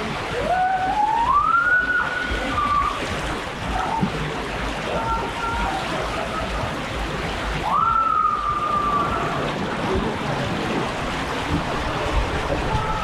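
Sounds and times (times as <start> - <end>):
water rushing down a slide: 0.0 - 13.0.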